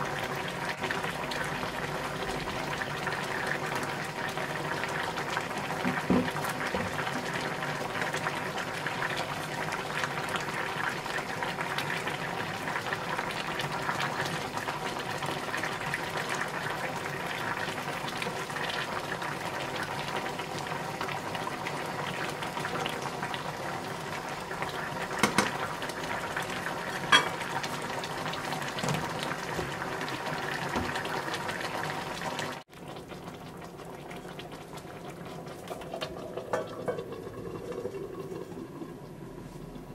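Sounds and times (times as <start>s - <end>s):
stew bubbling in a pot: 0.0s - 39.9s.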